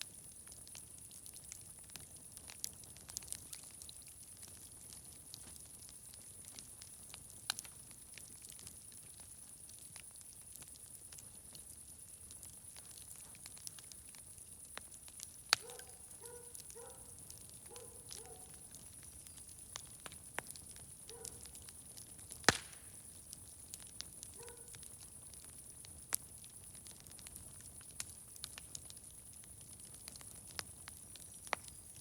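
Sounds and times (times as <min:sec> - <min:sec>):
faint hiss: 0:00.0 - 0:29.6
wood fire popping: 0:00.0 - 0:32.0.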